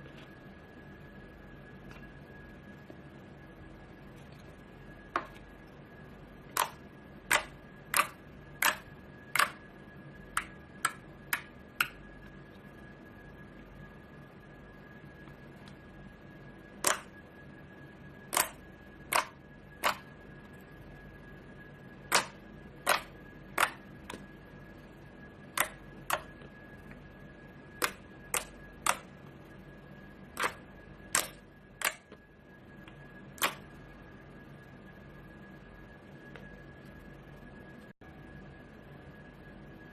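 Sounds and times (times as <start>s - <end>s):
faint steady high tone: 0.0s - 39.9s.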